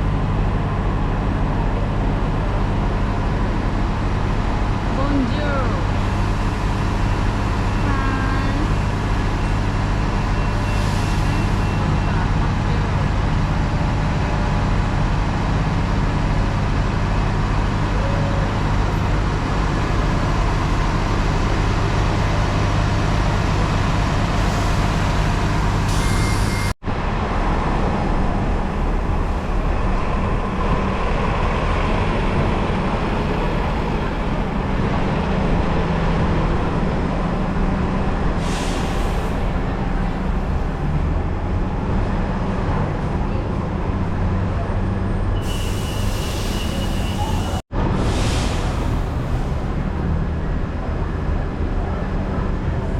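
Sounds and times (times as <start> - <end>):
road noise: 0.0 - 52.9.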